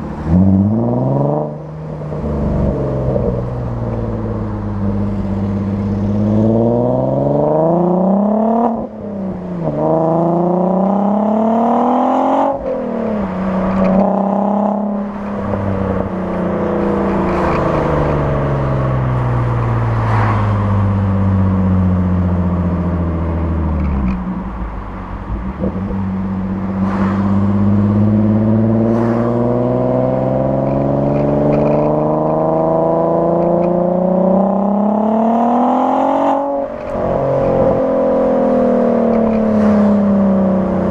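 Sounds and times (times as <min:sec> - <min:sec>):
car engine accelerating hard: 0:00.0 - 0:24.1, 0:25.5 - 0:40.9.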